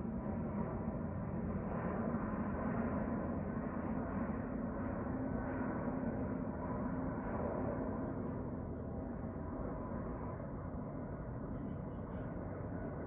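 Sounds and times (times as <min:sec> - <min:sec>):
jet airliner flying over: 0:00.0 - 0:13.0.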